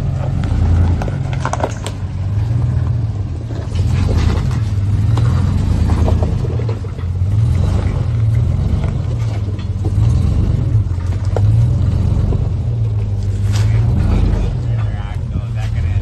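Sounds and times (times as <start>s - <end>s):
truck engine running at low revs: 0.0s - 16.0s.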